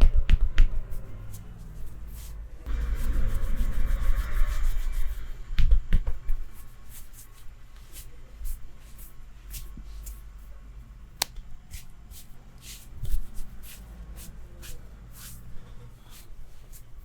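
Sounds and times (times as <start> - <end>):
hands rubbing skin in massage: 0.3 - 5.2, 6.3 - 10.5, 11.2 - 17.0.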